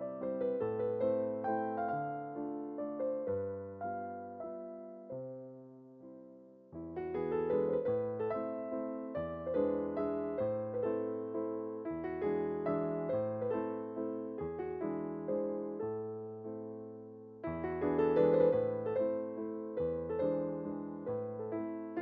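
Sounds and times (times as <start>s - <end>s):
gentle solo piano piece: 0.0s - 22.0s.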